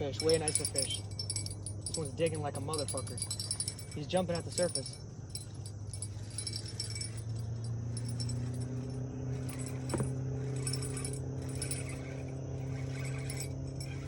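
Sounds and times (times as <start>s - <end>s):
fishing reel rattling: 0.0s - 14.0s
low hum: 0.0s - 14.0s.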